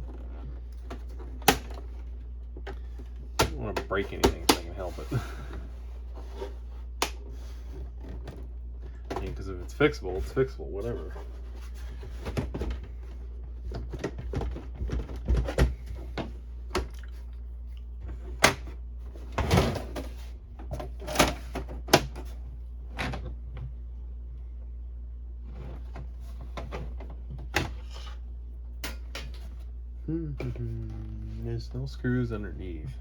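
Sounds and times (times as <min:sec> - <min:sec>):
dehumidifier humming: 0:00.0 - 0:33.0.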